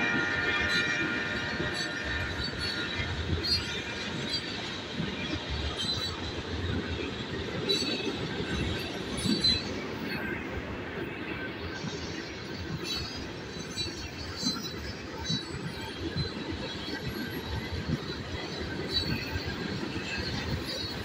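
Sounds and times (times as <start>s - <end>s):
clacks at rail joints: 0.0s - 21.0s
wheels rumbling on rail: 0.0s - 21.0s.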